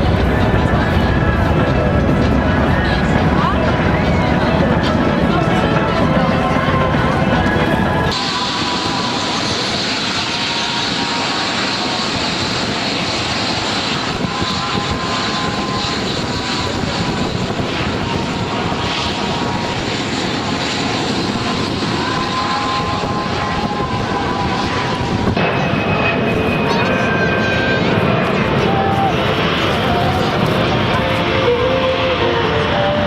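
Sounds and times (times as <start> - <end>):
aircraft engines running with whine: 0.0 - 33.0.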